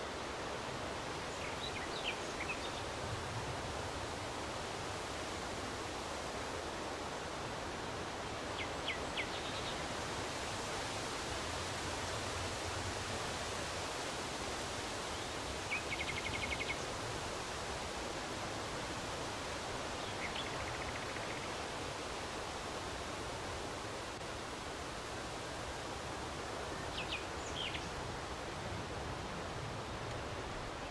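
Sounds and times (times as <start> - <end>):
wind rustling leaves: 0.0 - 30.9.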